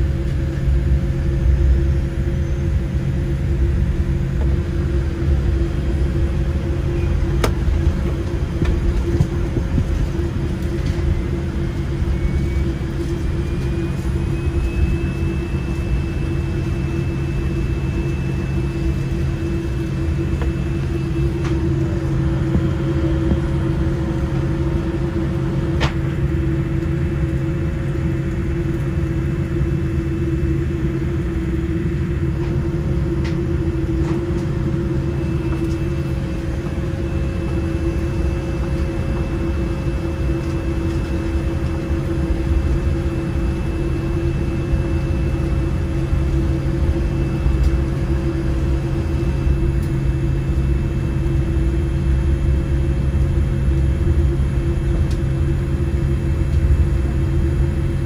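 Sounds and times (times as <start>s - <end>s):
aircraft cabin rumble and hum: 0.0s - 58.0s
faint high whine: 0.0s - 58.0s.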